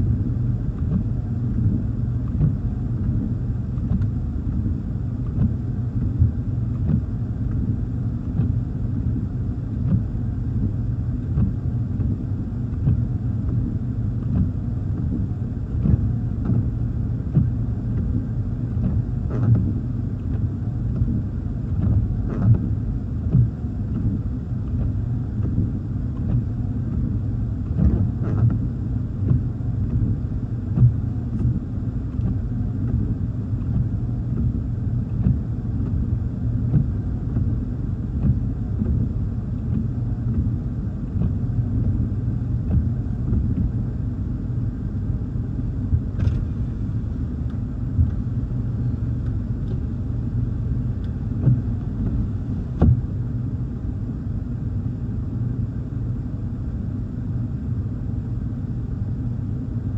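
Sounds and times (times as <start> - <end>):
low rumble inside car: 0.0 - 59.9.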